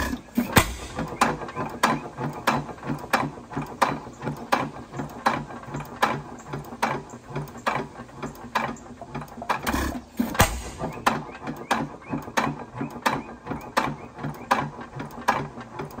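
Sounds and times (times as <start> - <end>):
hit-and-miss engine running: 0.0 - 16.0
valve gear clicking: 0.0 - 16.0.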